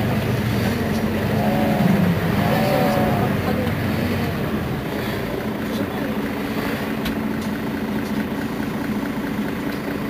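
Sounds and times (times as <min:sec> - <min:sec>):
bus engine idling: 0:00.0 - 0:10.0
faint street noise: 0:00.0 - 0:10.0.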